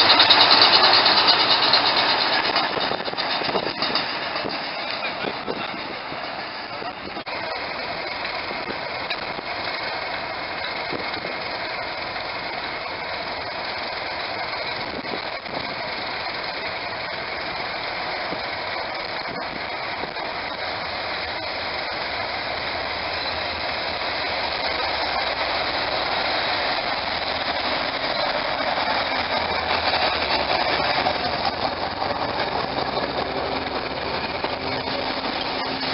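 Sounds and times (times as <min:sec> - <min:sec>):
diesel locomotive engine running: 0:00.0 - 0:35.9.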